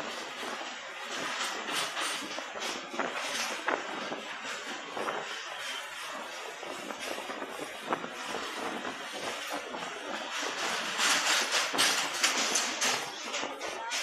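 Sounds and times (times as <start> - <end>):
rapid rattle: 0.0 - 14.0
train running over rail bridge: 0.0 - 14.0.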